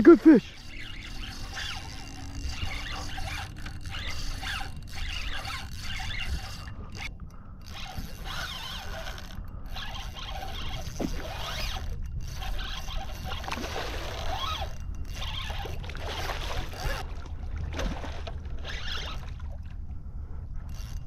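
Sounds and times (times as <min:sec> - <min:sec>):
fishing reel scraping whir: 0:00.0 - 0:21.0.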